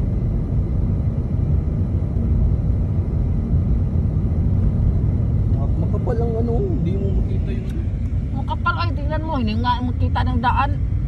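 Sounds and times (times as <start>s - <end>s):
tyres and engine rumble: 0.0s - 11.0s.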